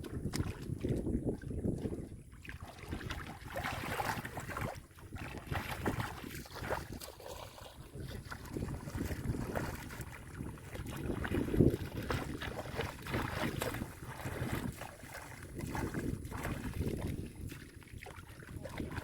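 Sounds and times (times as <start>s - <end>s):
muddy water splashing: 0.0s - 19.0s
wind rumble on microphone: 0.0s - 19.0s.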